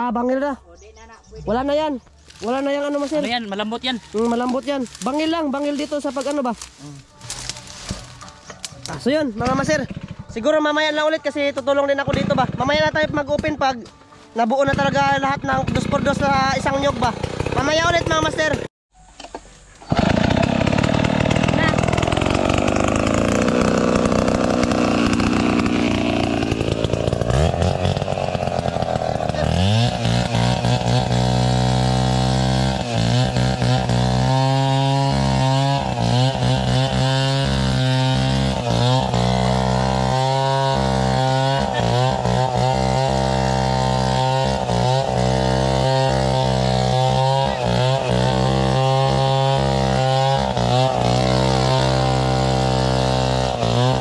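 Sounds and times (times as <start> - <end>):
chainsaw cutting wood: 2.1 - 14.0, 14.6 - 18.7, 19.8 - 54.0.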